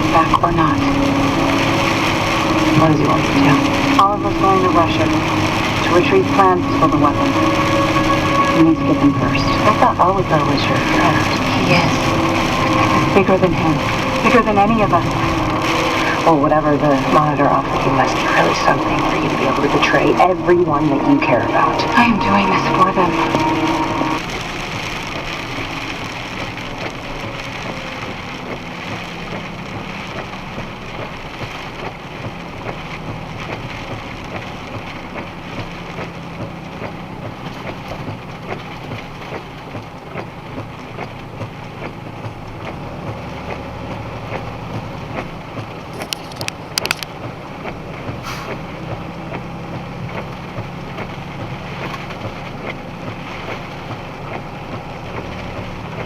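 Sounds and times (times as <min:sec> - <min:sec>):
engine and road drone: 0:00.0 - 0:56.0.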